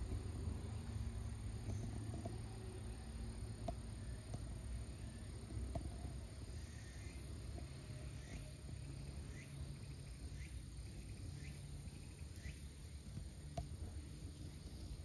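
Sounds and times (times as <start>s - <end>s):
low outdoor rumble: 0.0s - 15.0s
small bird chirping: 0.0s - 15.0s.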